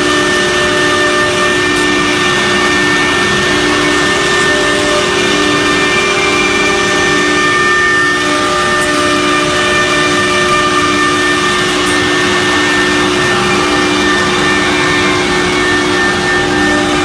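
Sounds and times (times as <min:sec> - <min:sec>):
cutting rushing noise: 0:00.0 - 0:17.0
router spindle whining: 0:00.0 - 0:17.0.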